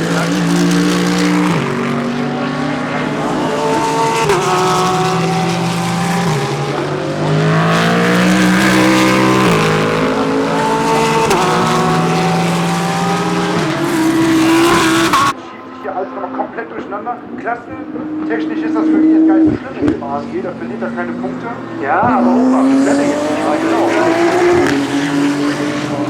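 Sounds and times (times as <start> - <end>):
race cars accelerating past: 0.0 - 26.0.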